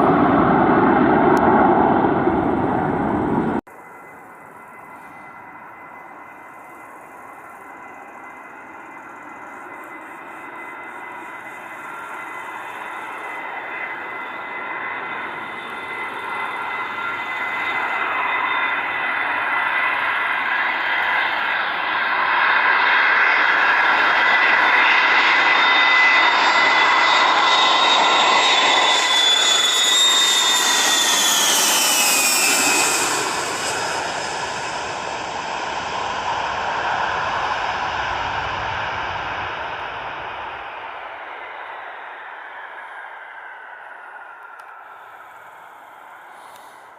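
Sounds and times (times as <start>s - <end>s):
jet roar and whine: 0.0s - 46.9s.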